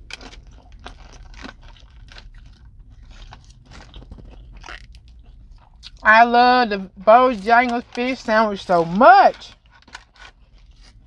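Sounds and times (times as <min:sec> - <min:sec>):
person chewing crunchy food: 0:00.0 - 0:06.1, 0:06.8 - 0:11.0.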